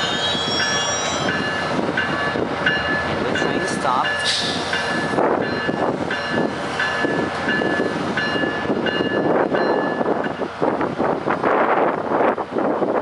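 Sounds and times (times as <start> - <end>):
crossing bell dinging: 0.0 - 10.5
train rumble: 0.0 - 13.0.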